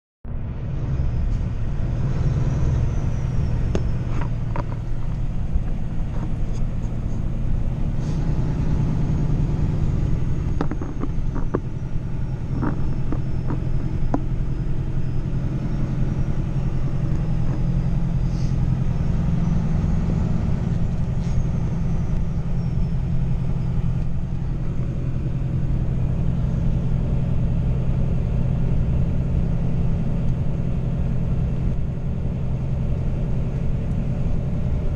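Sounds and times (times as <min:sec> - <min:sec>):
truck engine and road rumble: 0:00.2 - 0:34.9.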